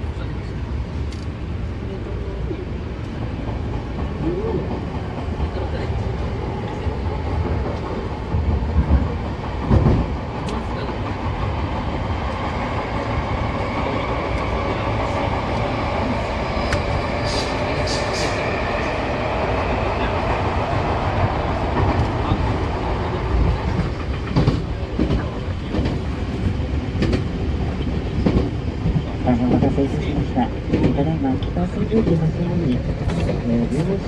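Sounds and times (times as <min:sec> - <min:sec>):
subway train wheels rumbling: 0:00.0 - 0:34.0.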